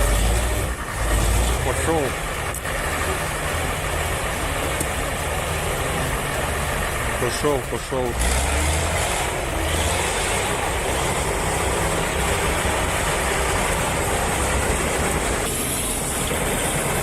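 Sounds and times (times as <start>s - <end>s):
diesel engine under load: 0.0s - 17.0s.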